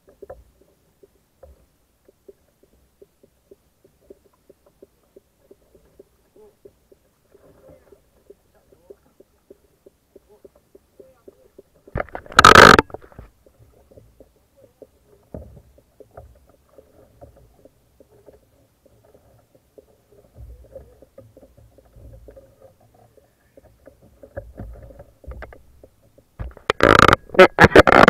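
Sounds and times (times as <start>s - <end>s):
small knocks: 0.0s - 28.0s
water lapping against kayak hull: 0.0s - 28.0s.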